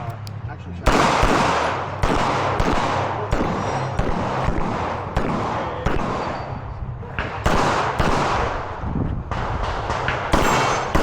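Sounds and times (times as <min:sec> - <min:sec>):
pistol shots echoing: 0:00.9 - 0:06.6, 0:07.2 - 0:11.0.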